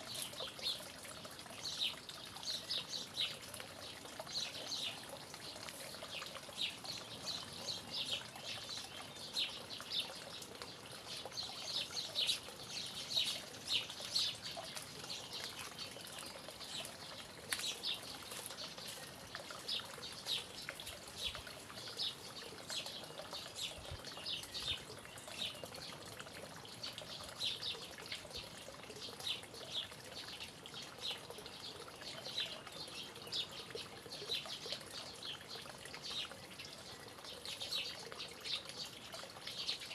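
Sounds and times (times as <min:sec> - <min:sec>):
small birds chirping: 0:00.0 - 0:39.9
water trickling: 0:00.0 - 0:39.9.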